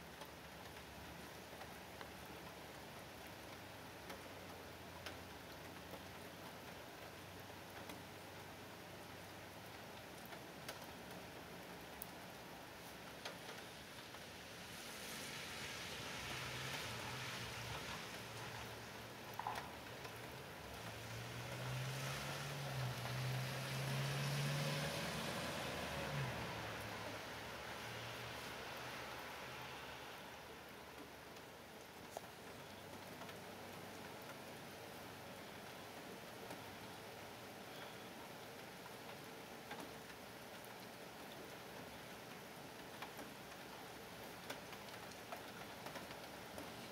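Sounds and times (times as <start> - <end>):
rain hissing: 0.0 - 46.9.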